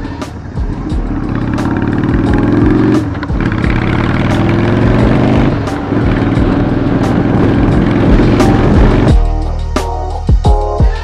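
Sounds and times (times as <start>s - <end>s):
motorcycle engine accelerating: 0.0s - 9.2s.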